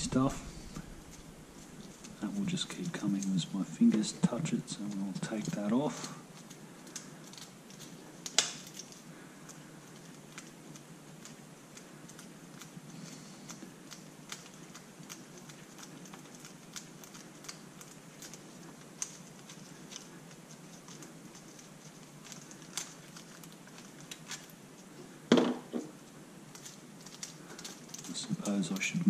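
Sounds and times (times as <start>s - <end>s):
metallic clicks and scrapes: 0.0s - 24.9s.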